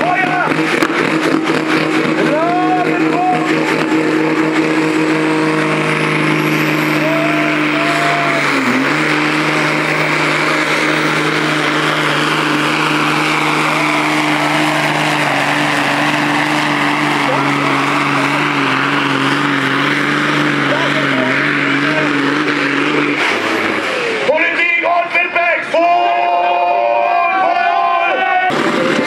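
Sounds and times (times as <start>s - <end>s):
tractor engine at high revs: 0.0s - 29.0s.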